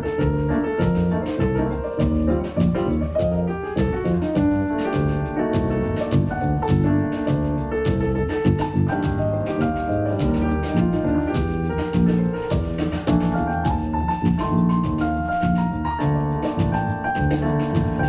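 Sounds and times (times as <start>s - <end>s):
bass: 0.0s - 18.0s
piano: 0.0s - 18.0s.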